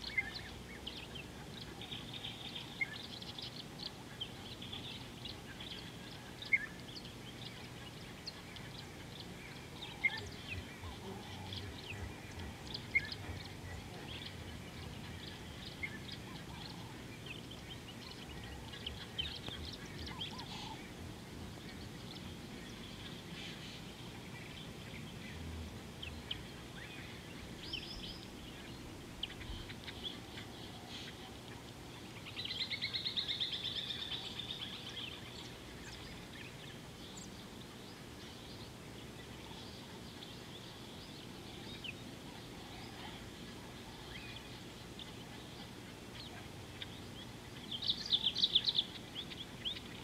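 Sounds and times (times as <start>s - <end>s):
low outdoor background noise: 0.0s - 50.0s
wild birds chirping: 0.0s - 50.0s.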